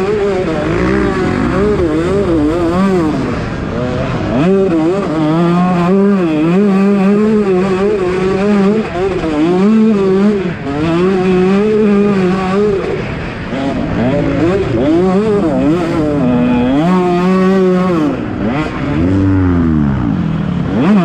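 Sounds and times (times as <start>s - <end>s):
motorbike engine revving high: 0.0s - 21.0s.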